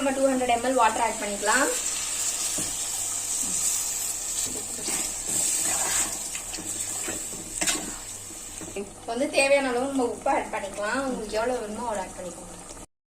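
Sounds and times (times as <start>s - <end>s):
frying pan hissing: 0.0s - 12.1s
water poured into a frying pan: 0.1s - 12.9s.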